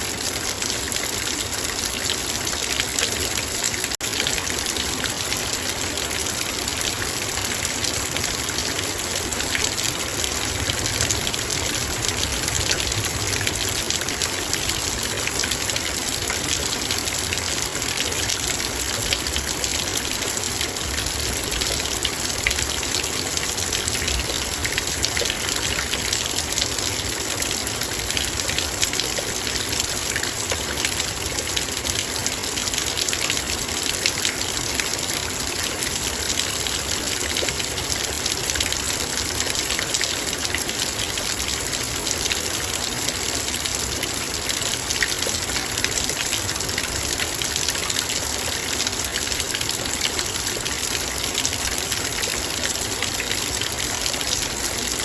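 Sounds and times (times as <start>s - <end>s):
heavy rain: 0.0s - 55.0s
raindrops hitting a metal bowl: 0.0s - 55.0s.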